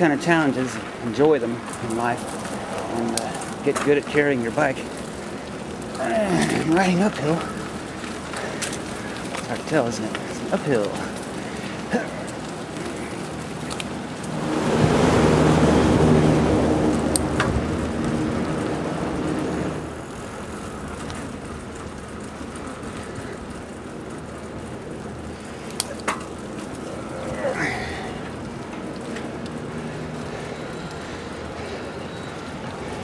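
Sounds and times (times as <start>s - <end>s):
outdoor traffic noise: 0.0s - 33.0s
motor vehicle passing by: 0.5s - 20.3s, 25.3s - 33.0s.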